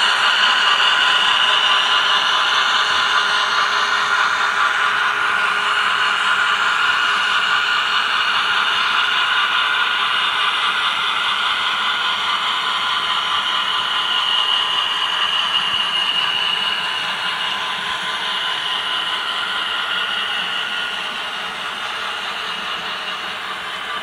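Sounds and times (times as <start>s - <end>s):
model train cars rolling on track: 0.0s - 24.0s.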